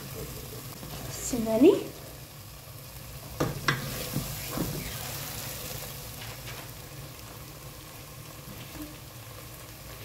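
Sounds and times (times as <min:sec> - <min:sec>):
low sizzle: 0:00.0 - 0:10.0.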